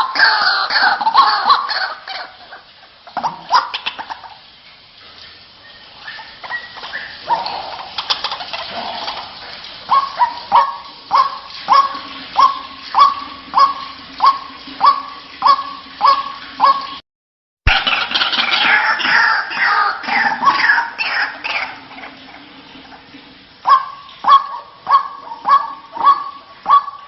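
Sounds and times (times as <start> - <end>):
waterhen calling: 0.0 - 17.0, 17.7 - 27.0.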